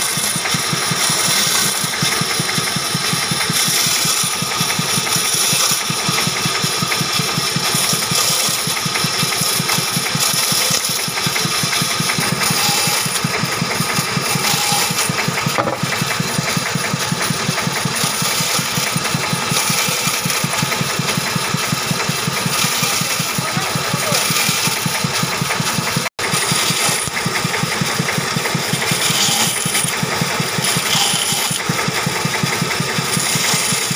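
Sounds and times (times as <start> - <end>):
band saw running: 0.0 - 33.9
saw blade cutting timber hiss: 0.0 - 33.9.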